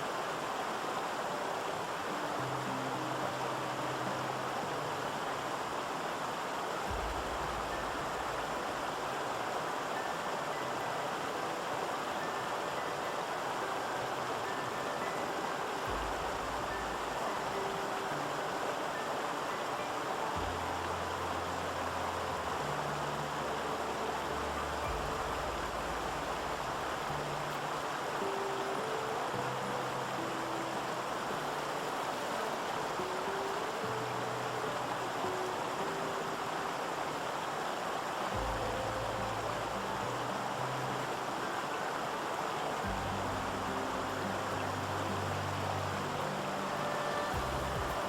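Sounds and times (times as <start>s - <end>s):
stream water rushing: 0.0s - 48.0s
low held music notes: 1.0s - 48.0s.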